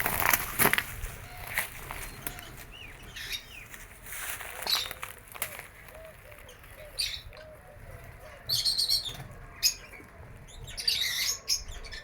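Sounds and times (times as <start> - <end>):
lovebirds chirping: 1.2 - 12.0.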